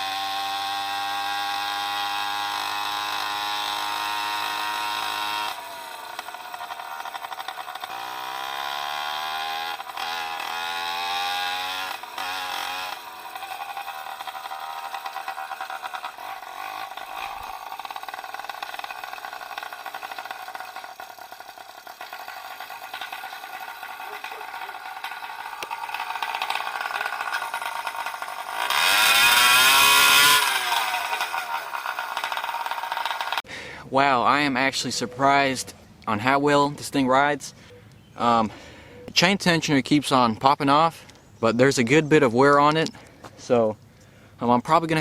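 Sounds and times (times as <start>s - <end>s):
two-stroke engine revving: 0.0s - 36.9s.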